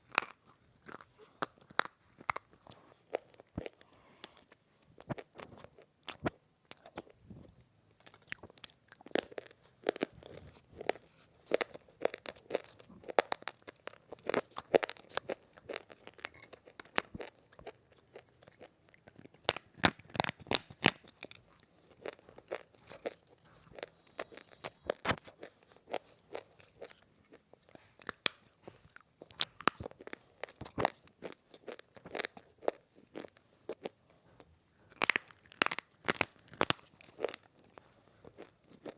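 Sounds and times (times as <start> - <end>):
crunchy biting and chewing: 0.0 - 7.2, 8.0 - 34.0, 34.9 - 38.9.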